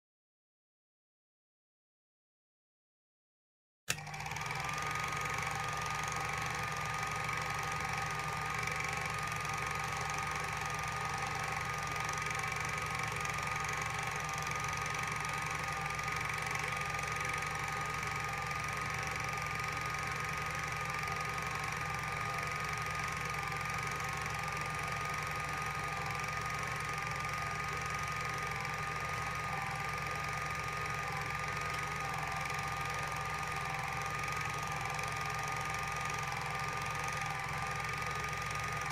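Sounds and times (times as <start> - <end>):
projector motor whine: 3.9 - 38.9.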